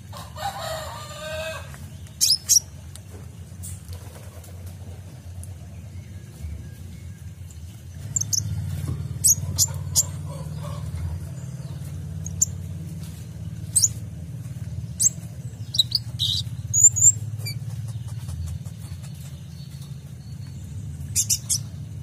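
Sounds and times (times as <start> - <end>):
bird chirping: 1.8 - 3.8, 5.6 - 22.0.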